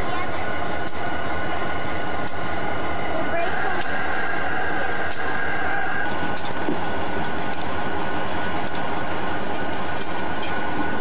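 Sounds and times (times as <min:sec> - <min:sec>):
diesel locomotive engine rumble: 0:00.0 - 0:11.0
thin steady whine: 0:00.0 - 0:11.0.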